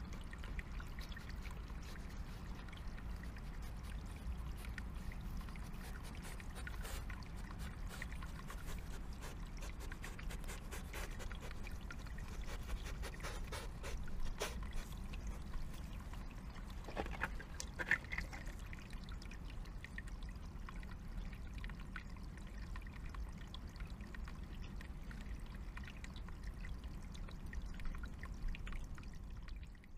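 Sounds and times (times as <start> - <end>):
water trickling in a stream: 0.0 - 29.9.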